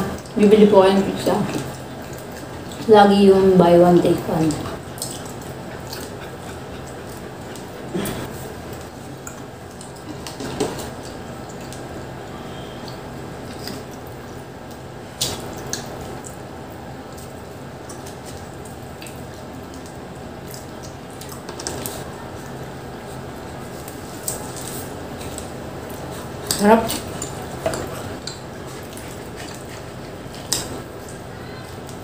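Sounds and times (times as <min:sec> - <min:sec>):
steady low hum: 0:00.0 - 0:32.0
pizza chewing close up: 0:04.6 - 0:16.4, 0:17.0 - 0:32.0.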